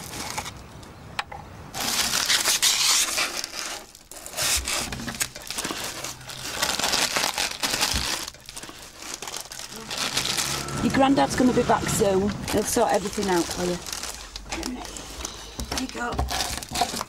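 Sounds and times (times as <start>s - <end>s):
food wrapping crinkling: 0.0s - 0.9s, 1.7s - 11.4s, 12.2s - 17.0s.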